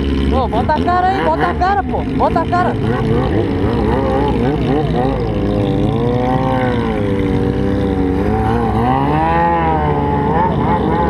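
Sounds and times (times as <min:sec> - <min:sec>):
motorcycle engine: 0:00.0 - 0:11.0.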